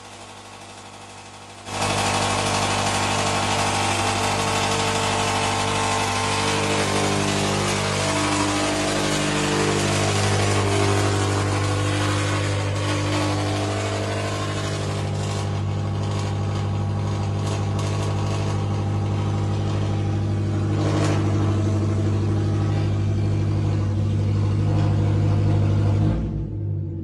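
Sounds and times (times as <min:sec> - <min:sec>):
car engine through loud exhaust: 0:00.0 - 0:27.0
exhaust crackle: 0:04.3 - 0:26.5.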